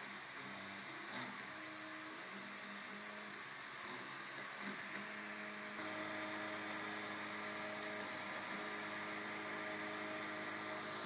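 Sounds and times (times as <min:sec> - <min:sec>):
printer motors humming: 0:00.0 - 0:11.0
soft hiss: 0:00.0 - 0:11.0.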